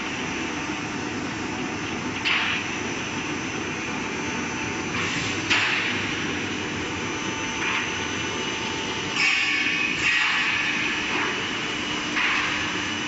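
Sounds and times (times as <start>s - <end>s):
factory machinery noise: 0.0s - 13.0s.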